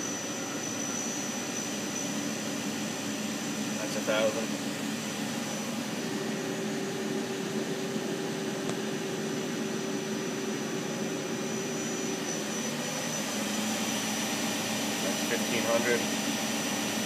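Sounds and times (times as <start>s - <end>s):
lathe spindle hum and whine: 0.0s - 17.0s.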